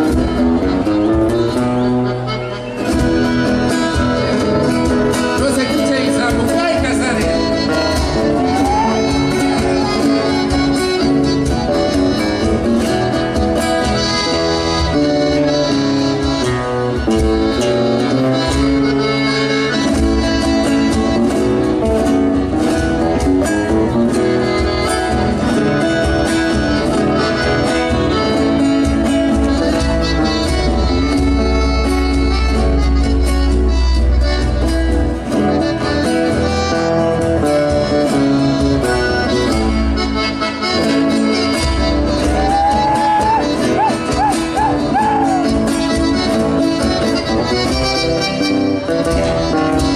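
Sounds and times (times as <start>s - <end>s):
accordion: 0.0s - 49.9s
guitar accompaniment: 0.0s - 49.9s.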